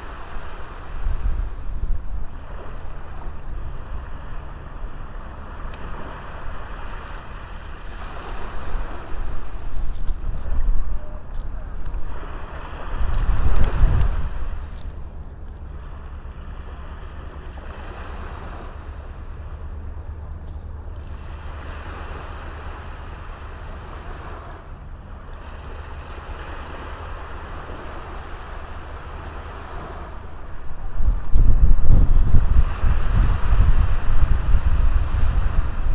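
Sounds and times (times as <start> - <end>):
small waves washing onto beach: 0.0 - 35.9
steady low rumble: 0.0 - 35.9.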